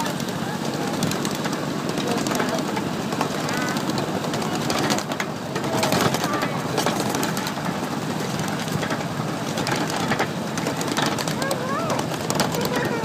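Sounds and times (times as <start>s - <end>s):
miniature train rumble: 0.0s - 13.0s
wheels clattering on rails: 0.0s - 13.0s.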